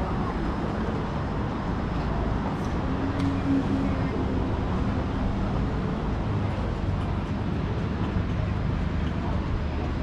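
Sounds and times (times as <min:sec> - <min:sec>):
road traffic rumbling: 0:00.0 - 0:10.0.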